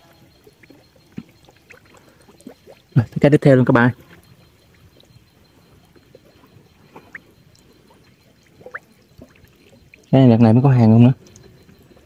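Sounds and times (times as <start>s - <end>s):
water trickling and sloshing: 0.0s - 12.0s.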